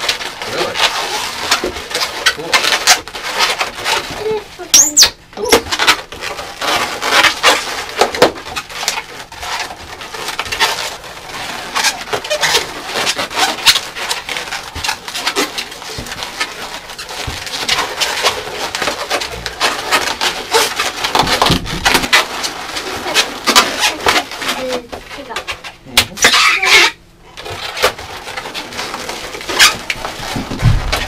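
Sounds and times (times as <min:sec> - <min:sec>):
balloons squeaking and rubbing: 0:00.0 - 0:31.0.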